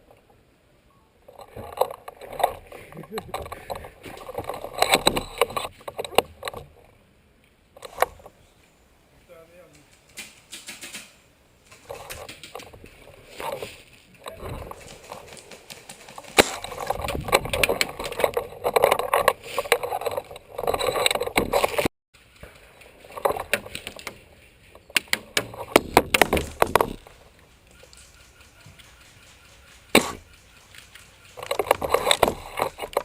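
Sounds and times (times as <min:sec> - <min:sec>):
rustling and crackling handling noise: 0:01.3 - 0:08.8, 0:09.6 - 0:33.0.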